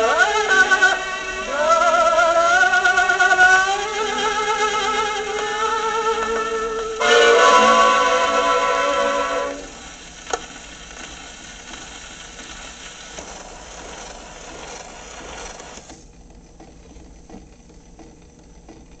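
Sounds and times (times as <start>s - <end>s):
gramophone surface hiss: 0.0s - 15.9s
soft record ticks: 0.4s - 7.0s, 9.4s - 19.0s.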